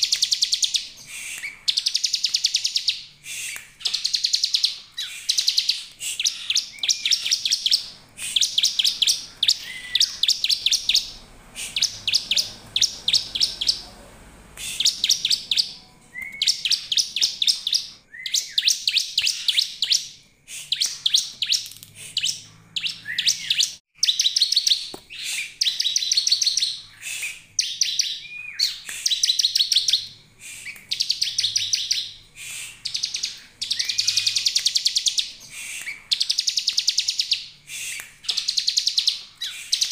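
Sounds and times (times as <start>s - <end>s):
bird chirping in fast trains: 3.8s - 20.2s, 20.8s - 39.9s.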